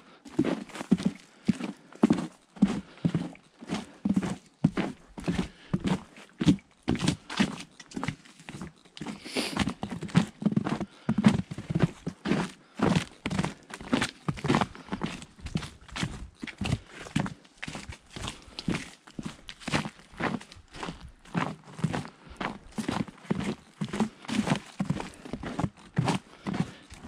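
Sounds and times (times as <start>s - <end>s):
boots crunching in snow: 0.3s - 27.0s.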